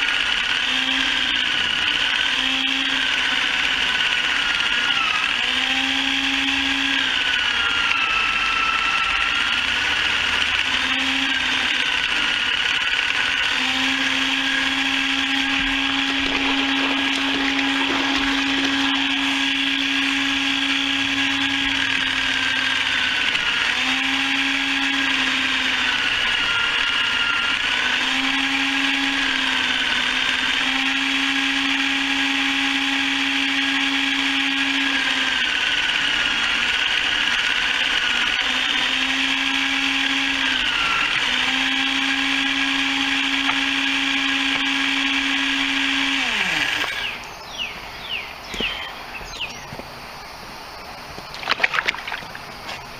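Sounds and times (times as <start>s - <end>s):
electric motor whining: 0.0s - 51.2s.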